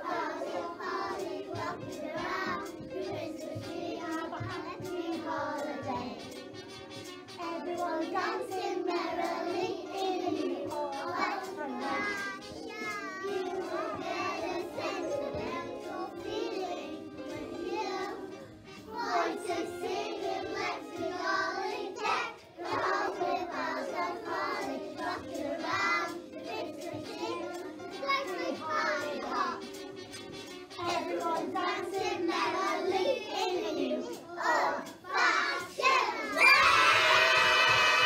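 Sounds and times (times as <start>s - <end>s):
children singing: 0.0s - 38.0s.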